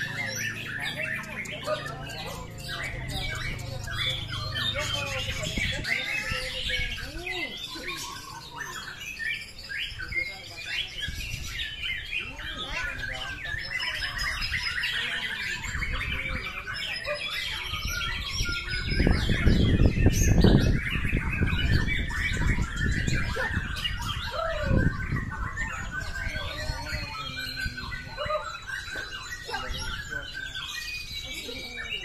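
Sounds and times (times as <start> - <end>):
birds whistling and chirping: 0.0 - 32.0.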